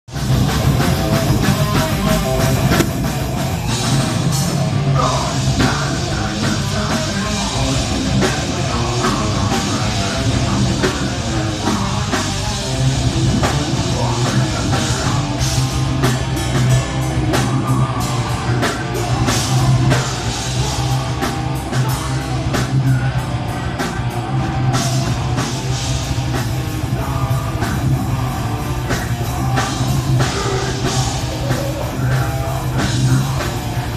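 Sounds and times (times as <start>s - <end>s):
distorted guitars: 0.0s - 33.9s
heavy bass: 0.0s - 33.9s
heavy metal band playing: 0.0s - 33.9s
pounding drum kit: 0.1s - 33.9s.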